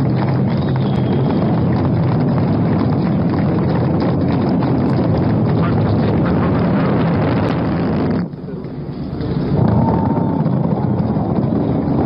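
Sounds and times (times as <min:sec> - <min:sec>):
rocket roar: 0:00.0 - 0:08.4, 0:09.0 - 0:12.0.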